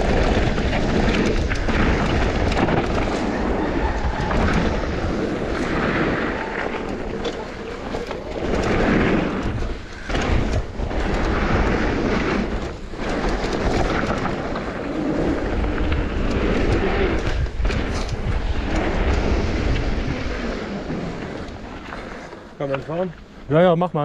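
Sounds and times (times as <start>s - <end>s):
bike rattling with sharp clicks: 0.0s - 23.1s
tyres on dirt and gravel: 0.0s - 24.0s
wind buffeting microphone: 0.0s - 24.0s.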